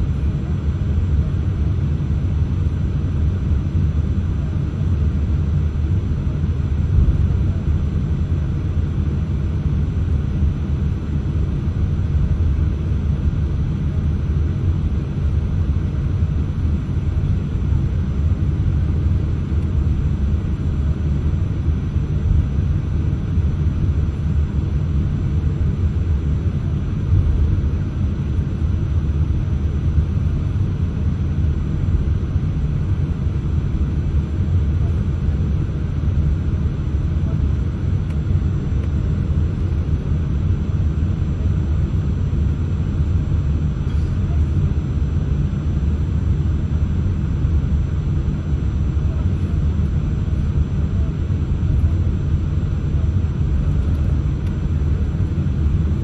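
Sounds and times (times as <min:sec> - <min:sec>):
airliner cabin low rumble: 0:00.0 - 0:56.0.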